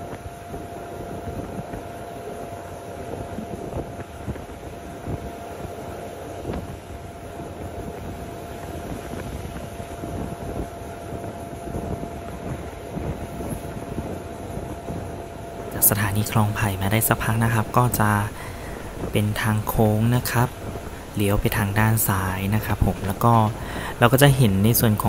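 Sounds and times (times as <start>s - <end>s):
steady high hum: 0.0s - 25.0s
train rumbling on track: 0.0s - 25.0s.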